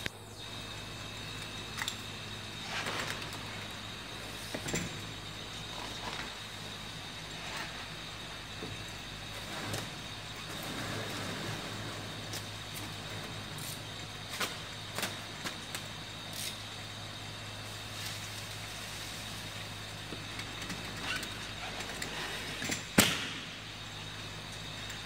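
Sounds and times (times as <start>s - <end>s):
factory machinery hum: 0.0s - 25.0s
faint high whine: 0.0s - 25.0s.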